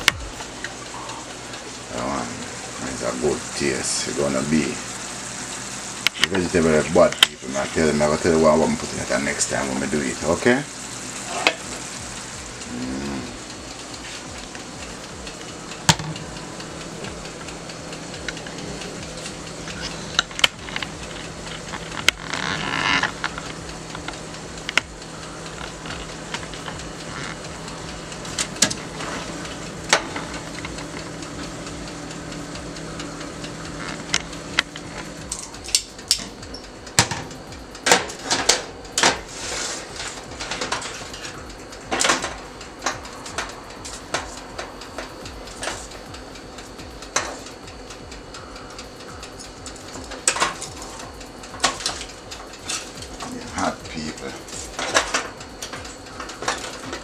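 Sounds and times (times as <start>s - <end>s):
low electrical hum: 0.0s - 57.0s
utensils and dishes clattering: 0.0s - 57.0s.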